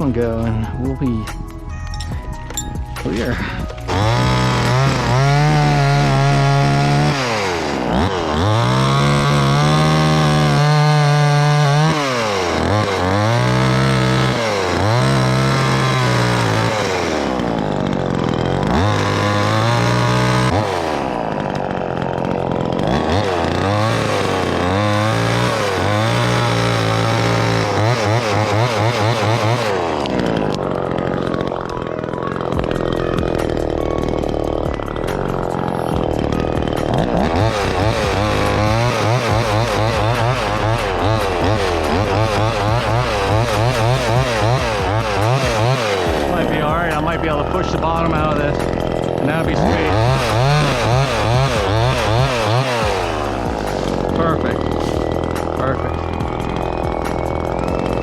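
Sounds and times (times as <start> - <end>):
chainsaw revving while cutting: 3.0 - 58.0.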